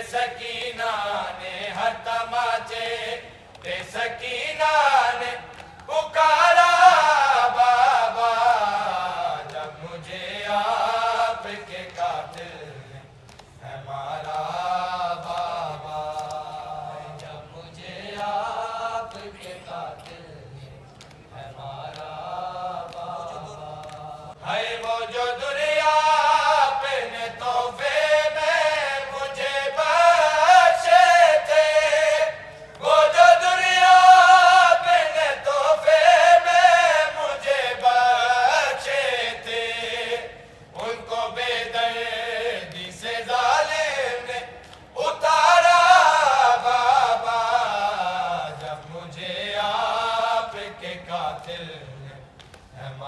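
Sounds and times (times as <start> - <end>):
men chanting: 0.0 - 20.7, 21.4 - 53.0.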